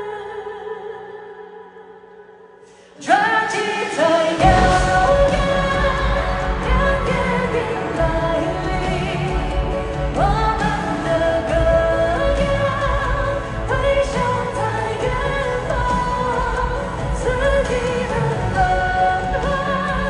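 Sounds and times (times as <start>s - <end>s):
live band accompaniment: 3.6s - 20.0s.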